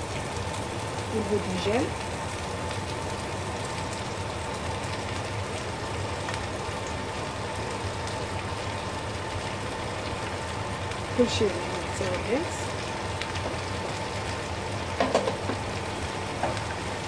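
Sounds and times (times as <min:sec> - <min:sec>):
vegetables sizzling in frying pan: 0:00.0 - 0:17.0.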